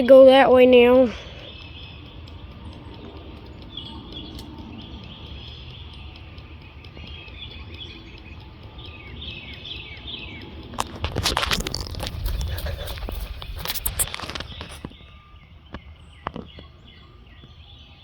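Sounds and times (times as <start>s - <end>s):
low outdoor rumble: 0.0s - 17.6s
small bird chirping: 0.0s - 18.0s.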